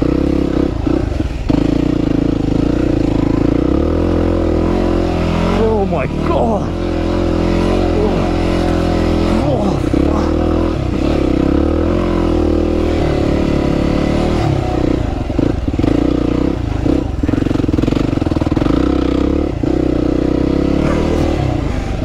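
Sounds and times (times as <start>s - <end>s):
motorcycle engine revving hard: 0.0s - 22.0s.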